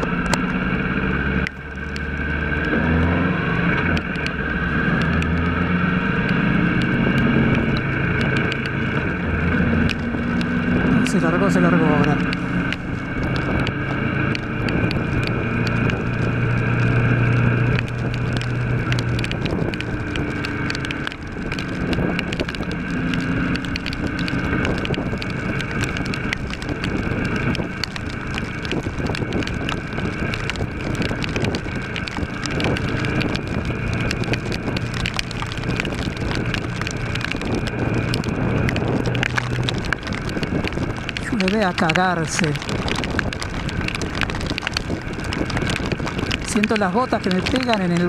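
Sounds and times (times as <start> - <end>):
pouring rain: 0.0 - 48.0
wind noise on microphone: 0.0 - 48.0.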